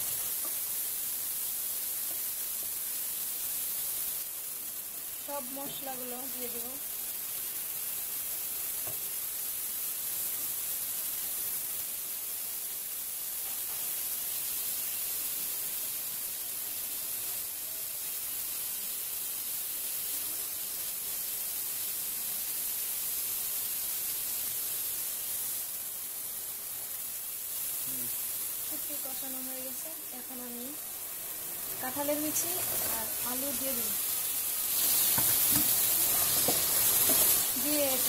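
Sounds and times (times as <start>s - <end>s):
food sizzling in oil: 0.0s - 38.0s.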